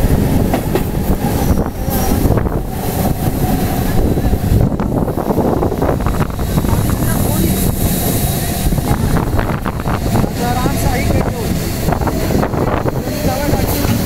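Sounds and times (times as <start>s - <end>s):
express train passing: 0.0s - 14.0s
train rumbling at speed: 0.0s - 14.0s
wind buffeting microphone: 0.0s - 14.0s.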